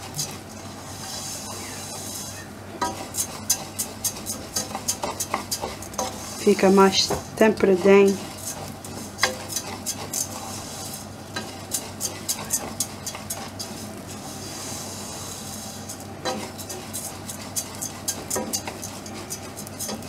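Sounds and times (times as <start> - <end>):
rice sizzling in oil: 0.0 - 20.0
wooden spoon scraping rice in a pan: 0.0 - 20.0.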